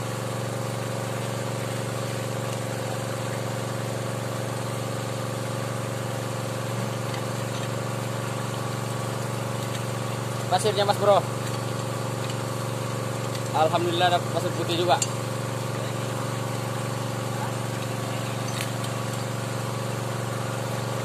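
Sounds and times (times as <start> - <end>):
engine-driven water pump running: 0.0 - 21.0.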